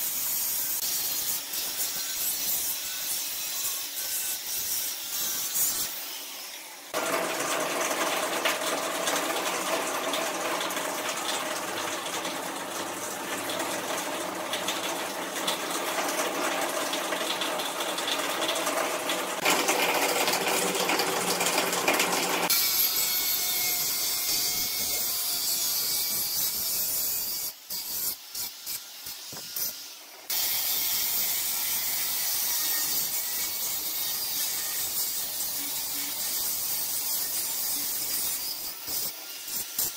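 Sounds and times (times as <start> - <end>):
angle grinder cutting steel tube: 0.0 - 17.4, 18.4 - 39.9.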